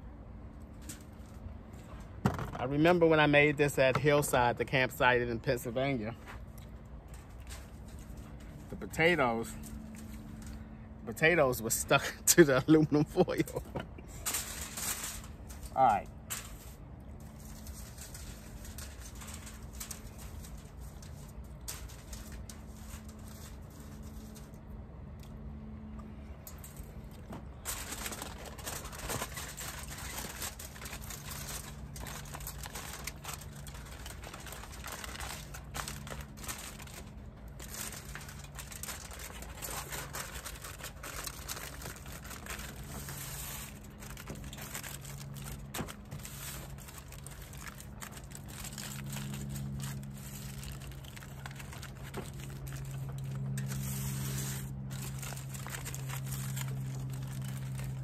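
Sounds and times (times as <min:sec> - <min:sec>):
foil crinkling: 0:04.3 - 0:24.7, 0:26.6 - 0:58.0.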